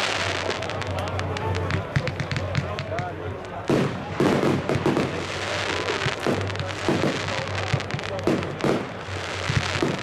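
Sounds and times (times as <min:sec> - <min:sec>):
fireworks banging: 0:00.0 - 0:10.0
fireworks crackling: 0:00.0 - 0:10.0.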